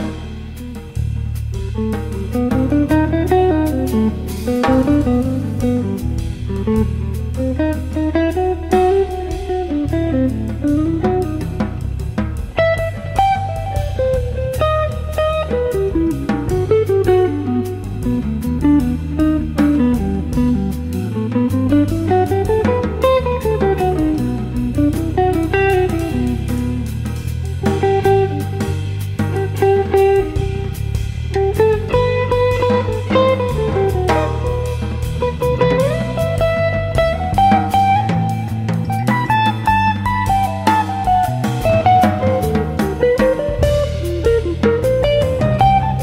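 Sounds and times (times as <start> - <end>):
bass notes: 0.0 - 46.0
light drums: 0.0 - 46.0
plucked guitar melody: 0.0 - 46.0.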